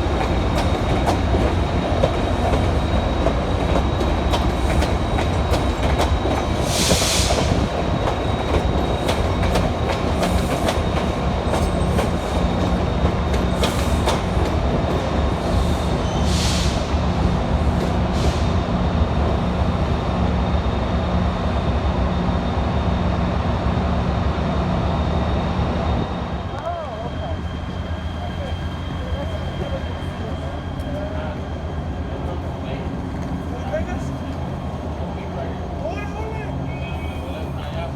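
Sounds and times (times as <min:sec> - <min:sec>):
train rumbling: 0:00.0 - 0:37.9.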